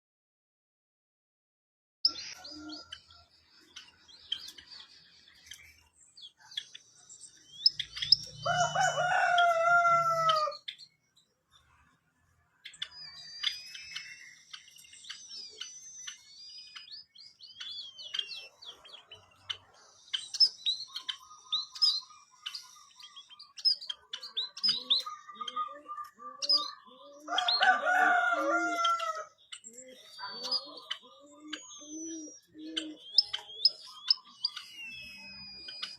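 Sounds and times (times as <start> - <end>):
bird chirping and whistling: 2.1 - 10.9, 12.7 - 35.9
drawn-out bird call: 2.1 - 10.9, 12.7 - 35.9.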